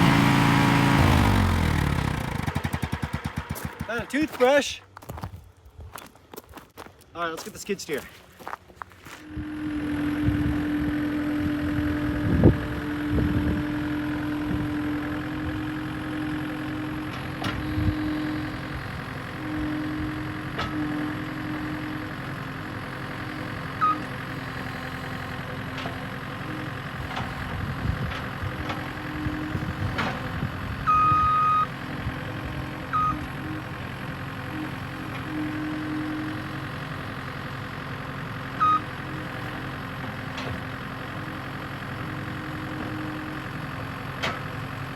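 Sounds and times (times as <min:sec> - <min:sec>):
skid steer engine running: 0:00.0 - 0:05.2, 0:08.4 - 0:44.9.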